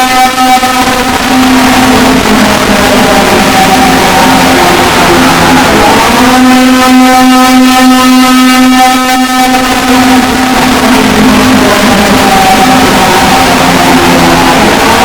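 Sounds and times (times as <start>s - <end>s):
harsh buzzing alarm tone: 0.0s - 15.0s.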